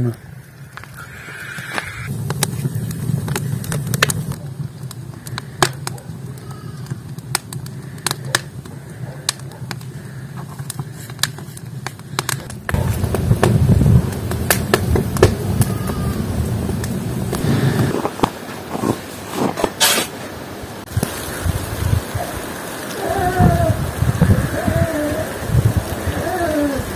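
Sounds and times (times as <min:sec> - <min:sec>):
low steady fire rumble: 0:00.0 - 0:26.9
wood fire crackling and popping: 0:00.0 - 0:26.9.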